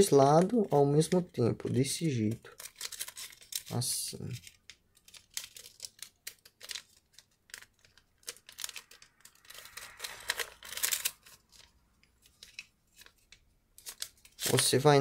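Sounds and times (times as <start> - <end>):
paper rustling: 0.0 - 15.0
paper crackling snaps: 2.2 - 15.0.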